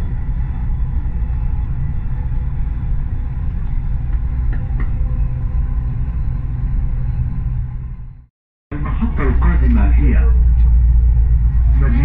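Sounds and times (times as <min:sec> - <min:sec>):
faint whine: 0:00.0 - 0:12.0
train rumbling inside carriage: 0:00.0 - 0:12.0.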